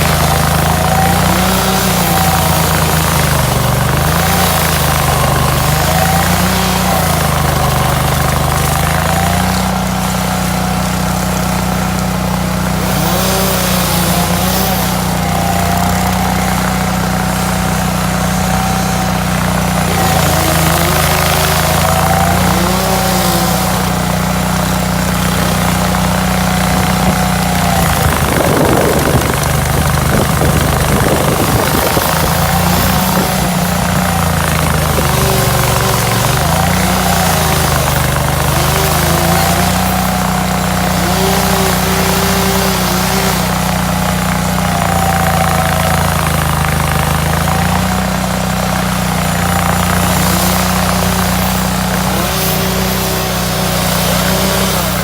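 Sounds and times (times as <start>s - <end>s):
stump grinder engine running: 0.0s - 55.0s.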